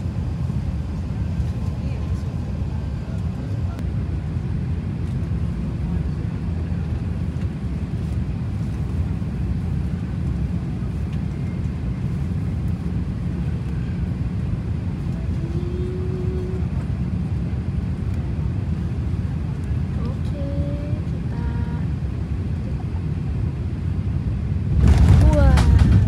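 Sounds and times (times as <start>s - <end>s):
airliner cabin rumble: 0.0s - 26.0s.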